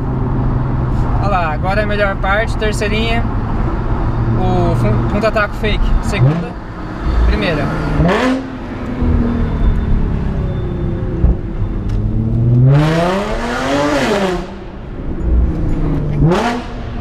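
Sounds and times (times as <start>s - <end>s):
car engine revving with exhaust note: 0.0s - 17.0s.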